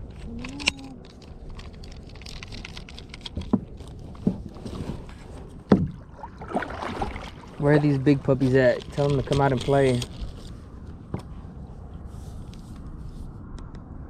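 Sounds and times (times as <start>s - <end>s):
water around a boat: 0.0s - 13.5s
wind: 0.0s - 14.0s.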